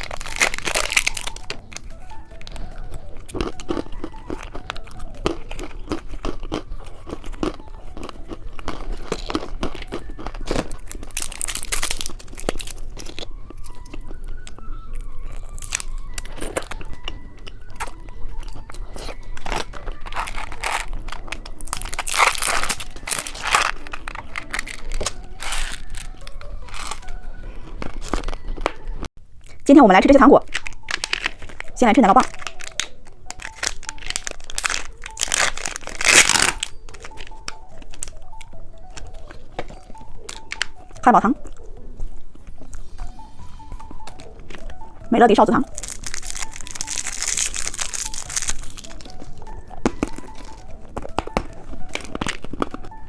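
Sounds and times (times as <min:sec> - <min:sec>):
person crunching candy: 0:00.0 - 0:53.0.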